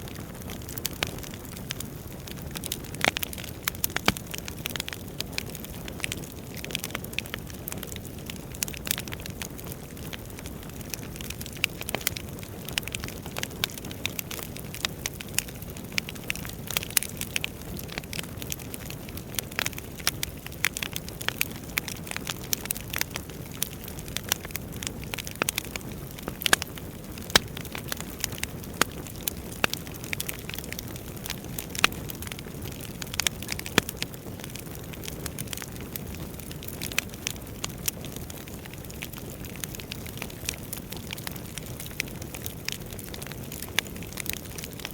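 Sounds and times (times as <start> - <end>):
fire crackling and popping: 0.0 - 44.9
low rumble of flames: 0.0 - 44.9.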